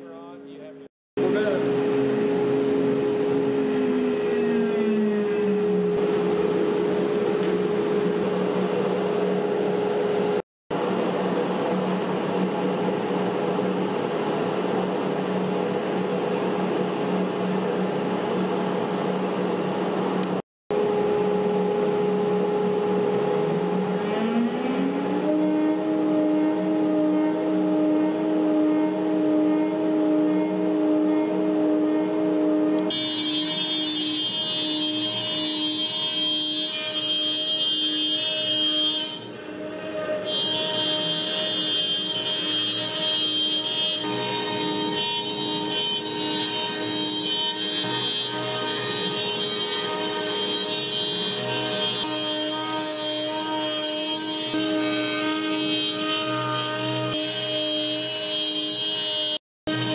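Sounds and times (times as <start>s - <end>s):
cnc router cutting: 0.0s - 59.9s
machine hum: 0.0s - 59.9s.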